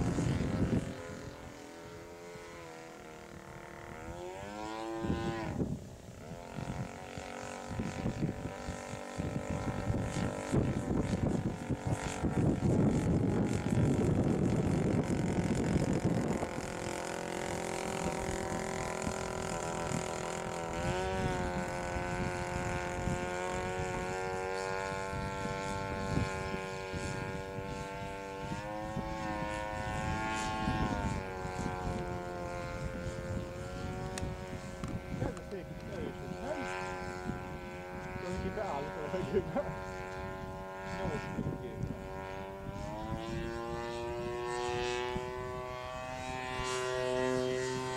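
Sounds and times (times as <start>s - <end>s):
two-stroke aircraft engine running: 0.0s - 47.9s.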